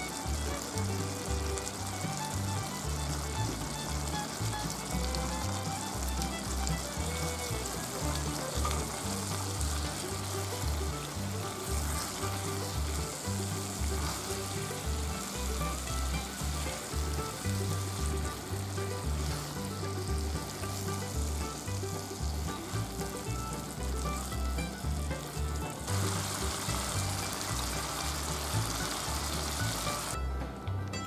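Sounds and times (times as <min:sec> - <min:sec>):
food sizzling in a frying pan: 0:00.0 - 0:30.2
spatula turning food: 0:00.0 - 0:30.2
background music with bass: 0:00.0 - 0:31.0.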